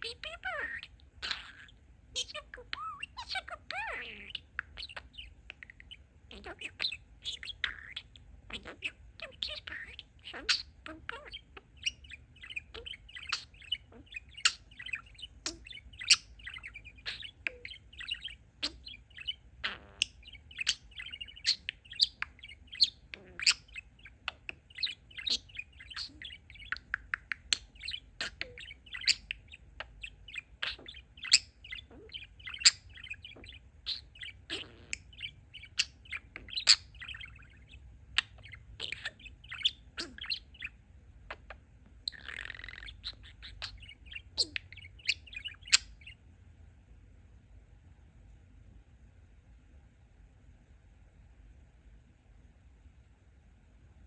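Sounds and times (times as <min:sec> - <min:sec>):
budgerigar chattering and warbling: 0:00.0 - 0:46.2.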